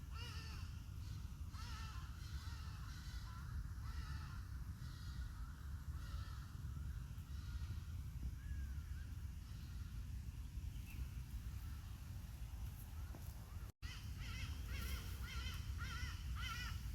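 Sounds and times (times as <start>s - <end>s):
birds calling: 0.1s - 16.9s.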